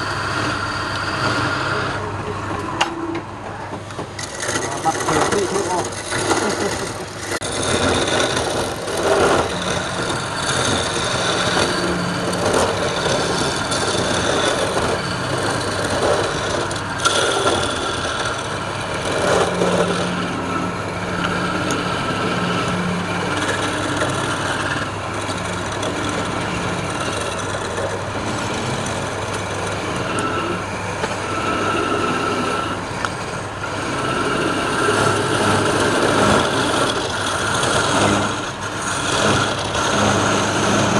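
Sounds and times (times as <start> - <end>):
lathe motor humming: 0.0 - 40.9
tool cutting spinning wood: 0.0 - 40.9.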